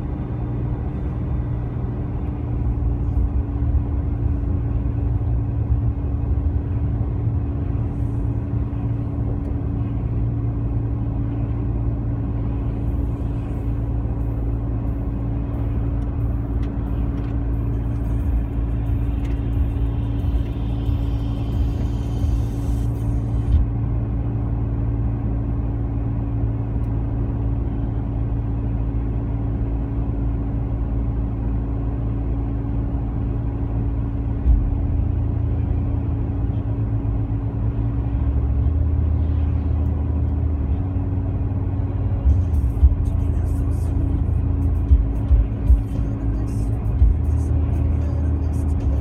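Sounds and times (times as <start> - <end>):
car road noise: 0.0 - 49.0.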